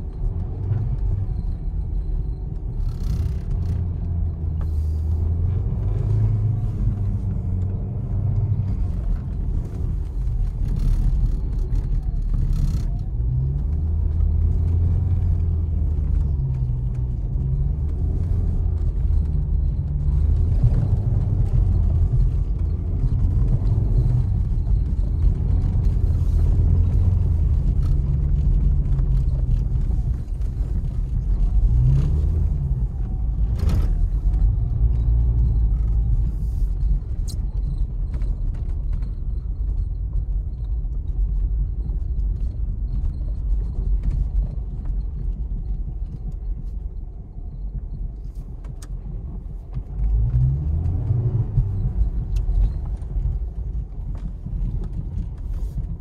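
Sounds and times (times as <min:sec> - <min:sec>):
car engine from inside cabin: 0:00.0 - 0:56.0
rumble of tyres on road: 0:00.0 - 0:56.0.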